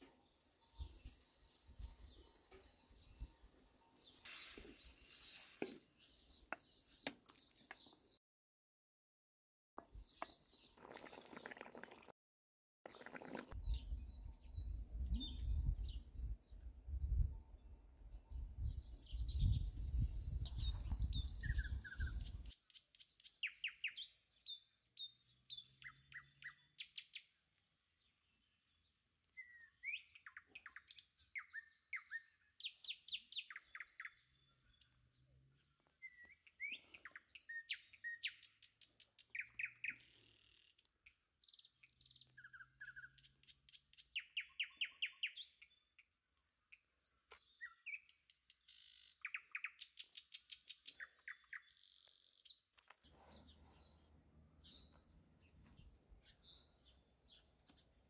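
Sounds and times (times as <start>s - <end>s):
songbirds trilling and chirping: 0.0s - 8.2s, 12.9s - 58.0s.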